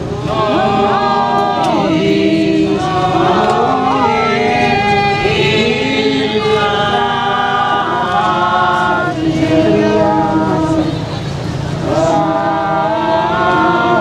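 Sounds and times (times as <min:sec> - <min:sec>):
group singing a slow hymn: 0:00.0 - 0:14.0.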